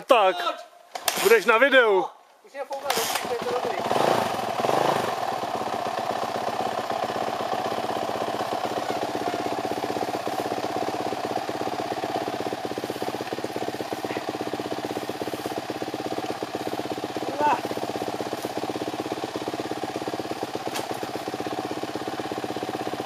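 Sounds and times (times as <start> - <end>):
dirt bike engine idling: 2.8 - 23.0.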